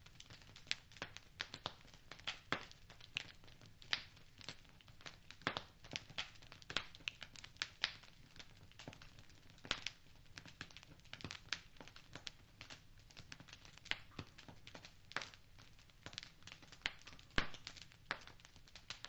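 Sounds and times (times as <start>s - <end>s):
faint steady hiss: 0.0s - 19.0s
wood fire crackling and popping: 0.0s - 19.0s.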